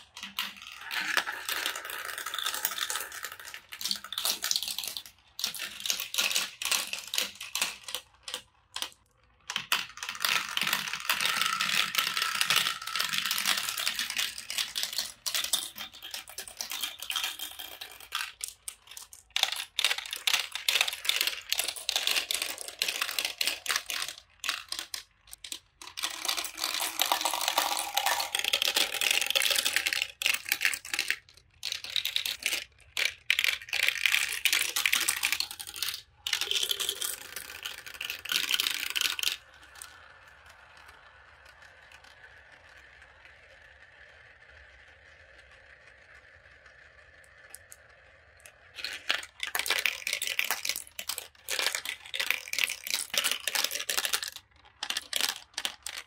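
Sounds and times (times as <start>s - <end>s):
marbles clattering through plastic run: 0.0s - 56.0s.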